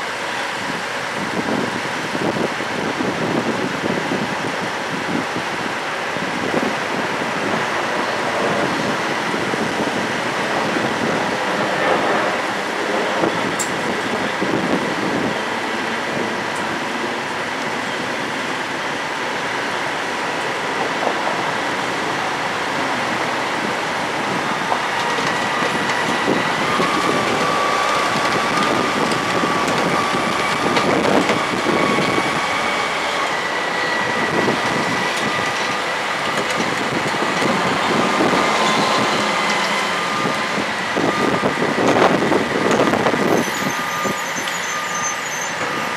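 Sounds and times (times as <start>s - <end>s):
heavy machinery running: 0.0s - 45.9s.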